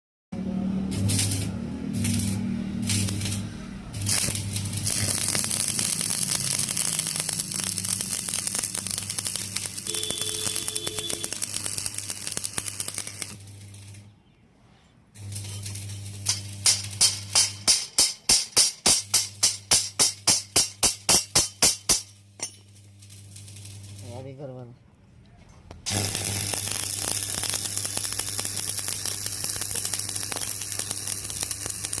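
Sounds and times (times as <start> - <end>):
low electrical hum: 0.4 - 32.0
welding arc crackling: 0.9 - 14.1, 15.2 - 24.4, 25.8 - 32.0.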